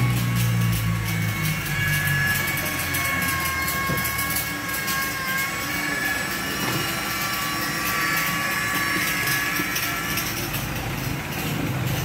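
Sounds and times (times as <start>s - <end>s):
low machine rumble: 0.0s - 12.0s
machine whine: 0.0s - 12.0s.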